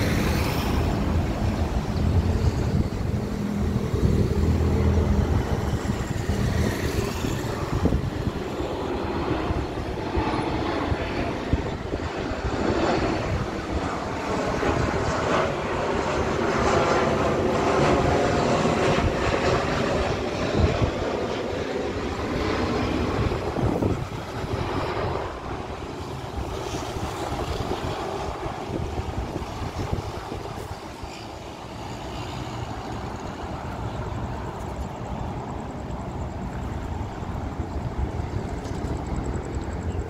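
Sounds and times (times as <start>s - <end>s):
jet engines passing overhead: 0.0s - 40.0s.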